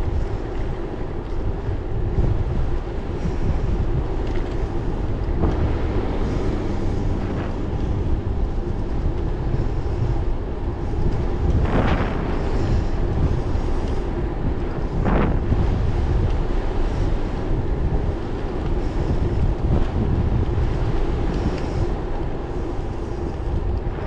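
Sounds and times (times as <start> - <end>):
tyres rumbling on asphalt: 0.0 - 24.0
wind buffeting microphone: 0.0 - 24.0.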